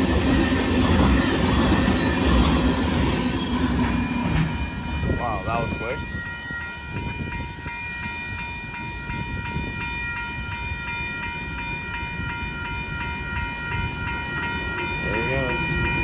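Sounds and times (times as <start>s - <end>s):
crossing bell ringing: 0.0s - 16.0s
freight train rumbling: 0.0s - 16.0s.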